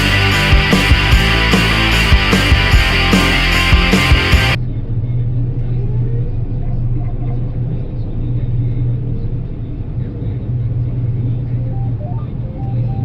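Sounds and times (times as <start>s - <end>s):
combine engine droning: 0.0s - 13.0s.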